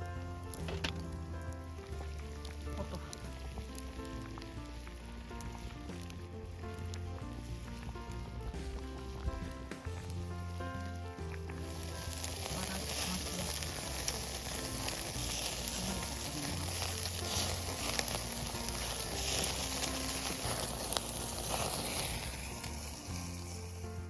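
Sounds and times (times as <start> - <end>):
fire crackles and pops: 0.0 - 24.0
food sizzling over campfire: 0.0 - 24.0.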